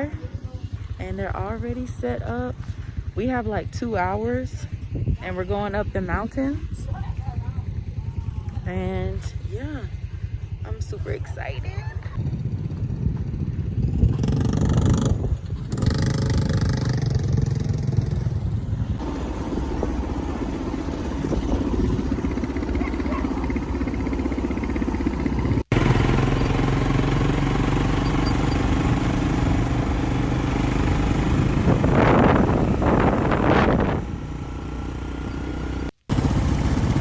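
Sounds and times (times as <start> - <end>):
quad bike engines droning: 0.0 - 37.0.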